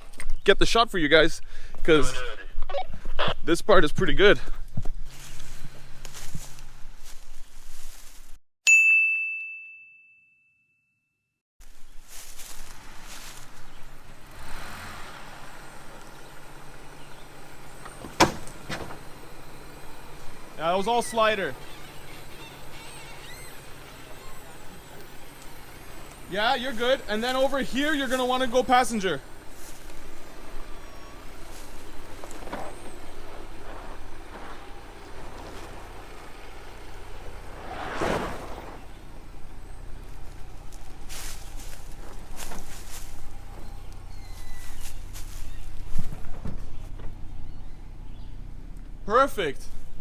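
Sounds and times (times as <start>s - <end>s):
engine running at low revs: 4.4s - 8.2s, 11.6s - 50.0s.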